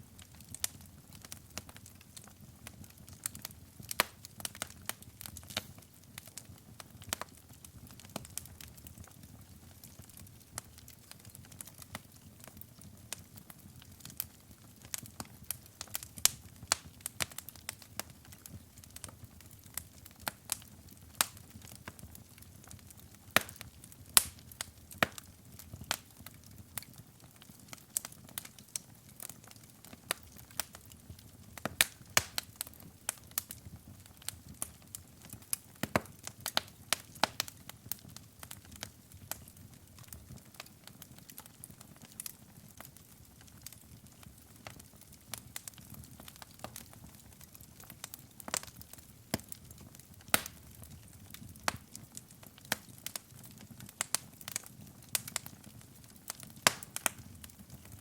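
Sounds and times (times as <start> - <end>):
low rumble of burning: 0.0 - 58.0
wood fire crackling and popping: 0.0 - 58.0.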